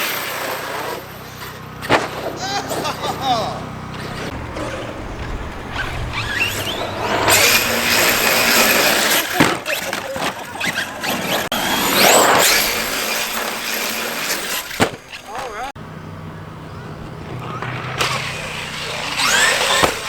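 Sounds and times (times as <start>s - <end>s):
tyres tearing across dirt: 0.0s - 15.8s, 16.6s - 20.0s
electric motor whining: 0.0s - 20.0s.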